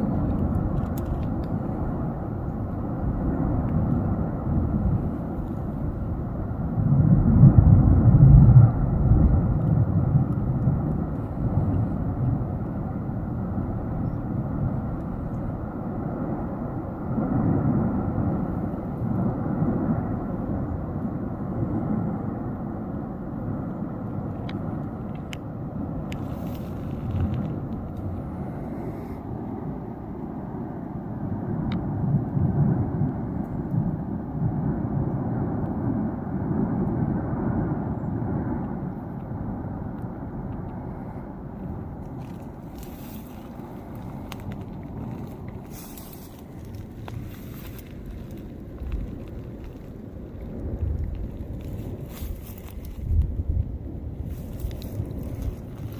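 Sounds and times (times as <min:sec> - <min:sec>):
volcano rumbling: 0:00.0 - 0:55.9.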